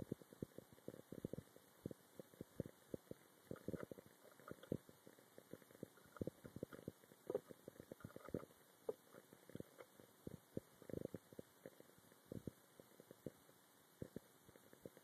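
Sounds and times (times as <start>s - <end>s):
water bubbling with dull thumps: 0.0s - 15.0s.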